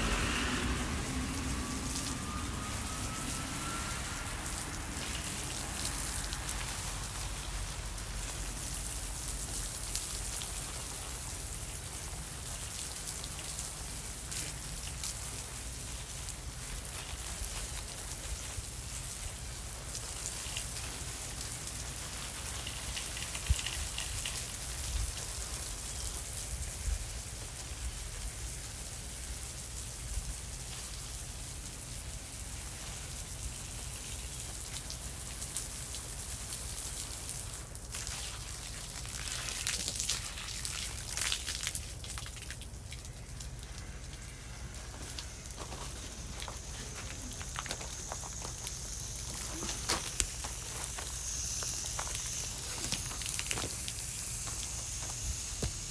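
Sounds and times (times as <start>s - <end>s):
hose spraying water on plants: 0.0s - 55.9s.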